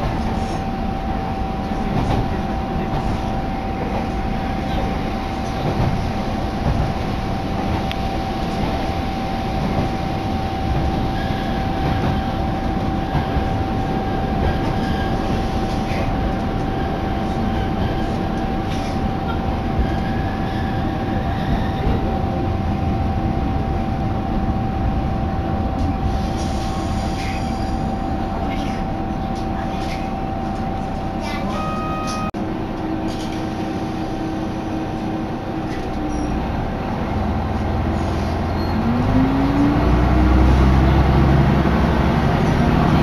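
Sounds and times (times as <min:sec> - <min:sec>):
train engine and wheels rumbling: 0:00.0 - 0:43.0.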